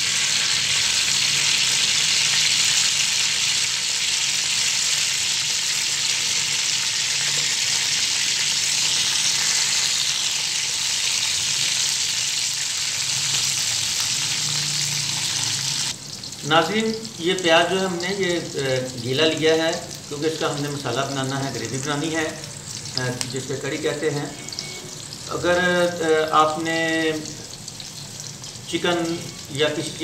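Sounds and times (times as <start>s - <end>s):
onions sizzling in hot oil: 0.0s - 30.0s.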